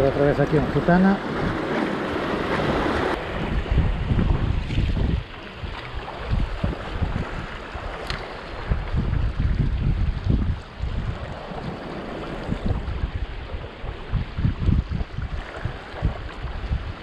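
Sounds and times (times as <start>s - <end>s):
surf washing over rocks: 0.0s - 17.0s
wind buffeting microphone: 0.0s - 17.0s.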